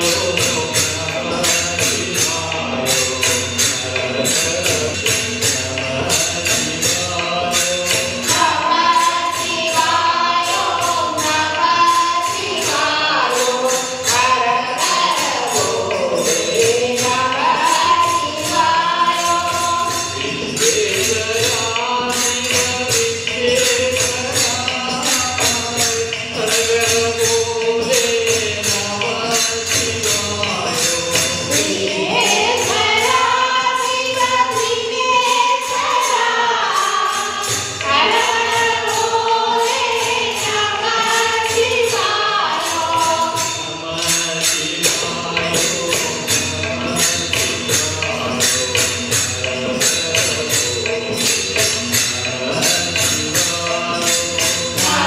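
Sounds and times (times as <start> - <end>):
group singing devotional song: 0.0 - 55.0
jingling percussion beat: 0.0 - 55.0
tabla: 0.0 - 55.0.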